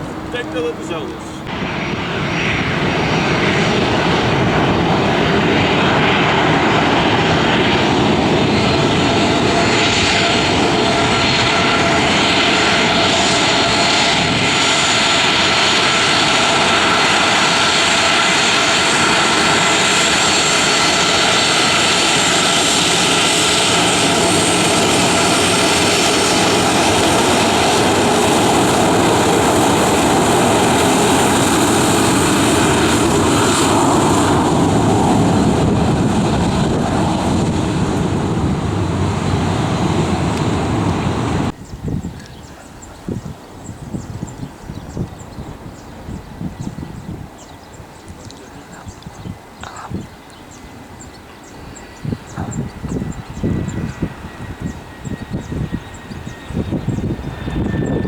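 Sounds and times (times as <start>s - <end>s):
airliner engines roaring: 0.0s - 58.0s.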